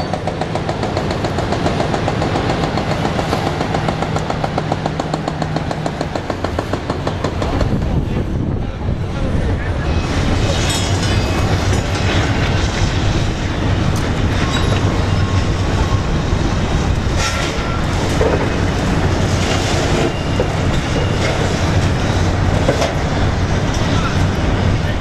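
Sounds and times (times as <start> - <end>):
excavator engine rumble: 0.0 - 25.0.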